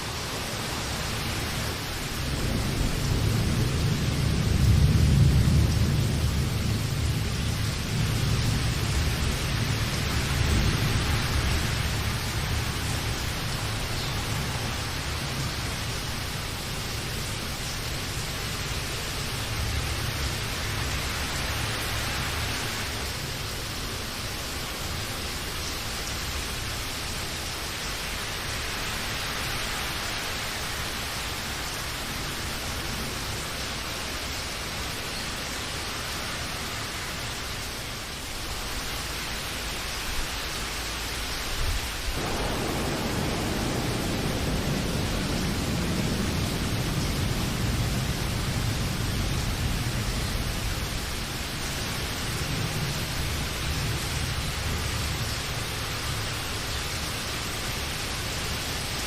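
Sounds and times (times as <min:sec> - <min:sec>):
heavy rain hiss: 0:00.0 - 0:59.0.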